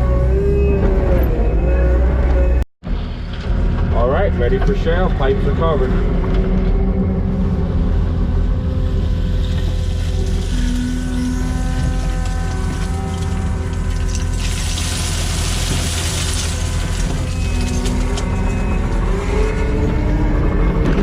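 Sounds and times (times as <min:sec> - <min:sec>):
diesel engine rumbling under load: 0:00.0 - 0:21.0.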